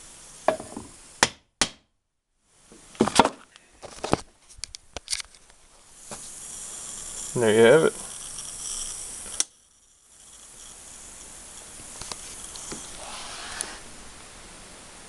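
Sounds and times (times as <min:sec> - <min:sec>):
faint hiss: 0:00.0 - 0:01.2, 0:02.4 - 0:15.0.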